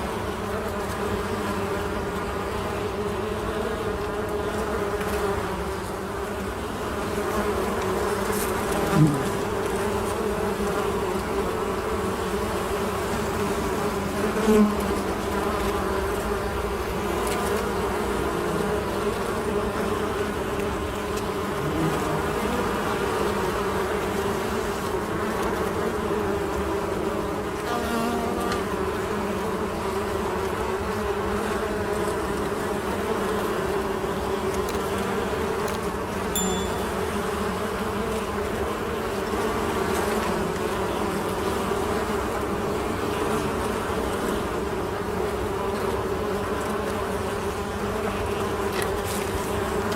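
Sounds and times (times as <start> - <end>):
bees buzzing: 0.3 - 49.9.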